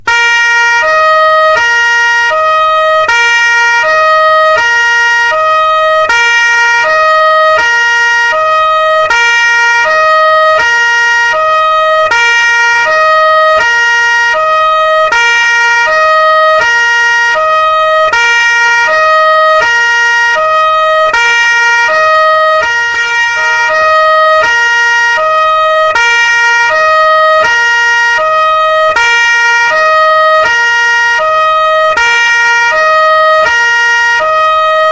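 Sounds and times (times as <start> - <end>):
two-tone police siren: 0.0 - 34.9.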